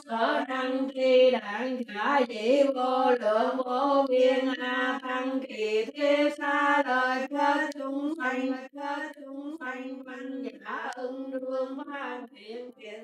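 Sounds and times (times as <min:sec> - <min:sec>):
woman chanting: 0:00.0 - 0:13.0.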